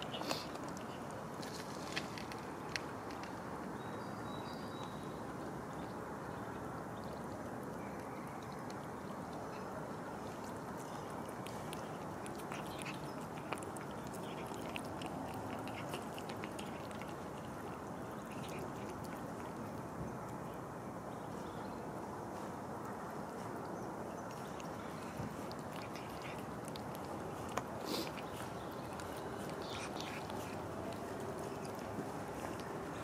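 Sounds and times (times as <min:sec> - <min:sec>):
cats crunching dry kibble: 0:00.0 - 0:03.8, 0:04.8 - 0:20.5, 0:23.6 - 0:33.0
steady background noise: 0:00.0 - 0:33.0.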